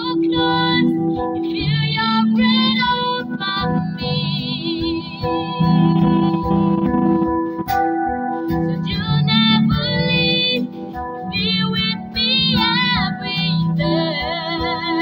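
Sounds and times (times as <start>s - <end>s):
woman singing slow song: 0.0s - 6.7s, 8.7s - 15.0s
instrumental accompaniment: 0.0s - 15.0s.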